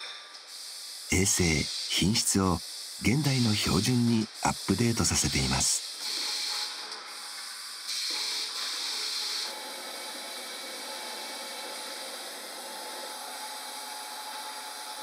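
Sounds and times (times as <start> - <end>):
hiss: 0.0 - 15.0.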